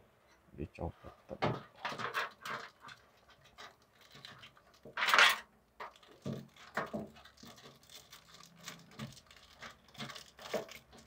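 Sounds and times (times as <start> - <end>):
plastic cable connectors rustling: 1.5 - 11.0.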